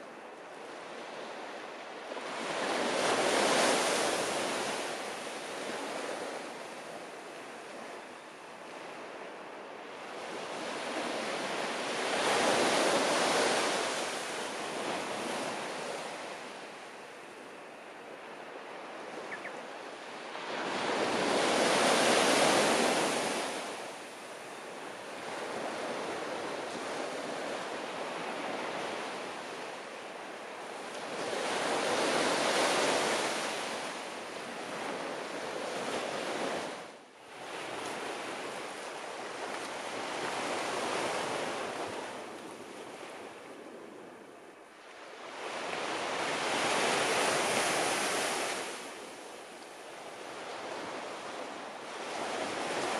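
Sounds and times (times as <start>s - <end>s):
sea waves breaking on shore: 0.0s - 52.9s.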